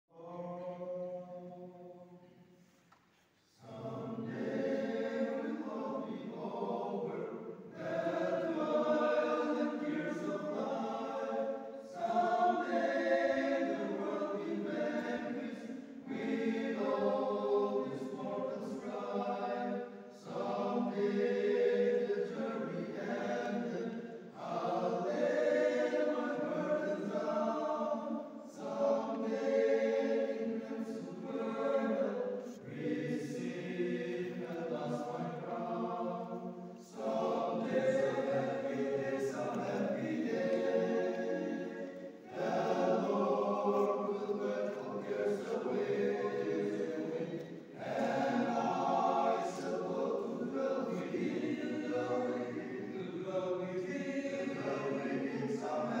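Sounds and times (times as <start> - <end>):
men's choir singing in harmony: 0.1 - 2.1, 3.5 - 56.0.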